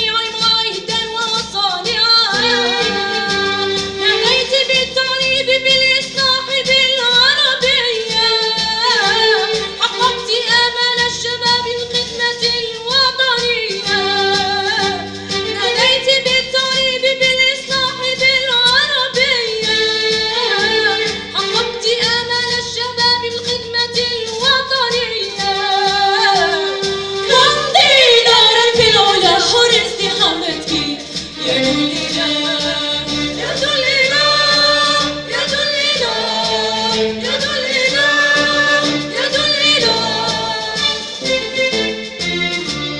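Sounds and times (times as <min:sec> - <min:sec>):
vocal ensemble: 0:00.0 - 0:42.9.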